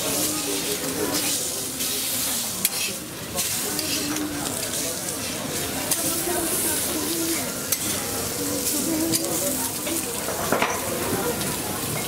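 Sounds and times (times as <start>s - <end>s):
burger patties sizzling on griddle: 0.0s - 12.0s.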